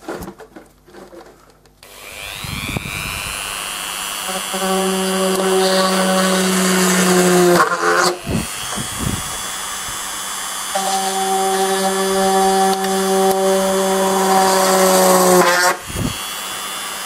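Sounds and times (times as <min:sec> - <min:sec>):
electric drill whine: 0:01.8 - 0:17.0.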